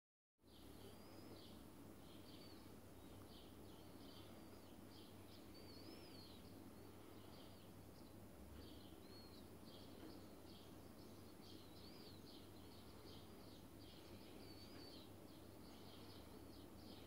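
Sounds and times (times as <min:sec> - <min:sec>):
low steady hum: 0:00.4 - 0:17.0
sparrows chirping: 0:00.4 - 0:17.0.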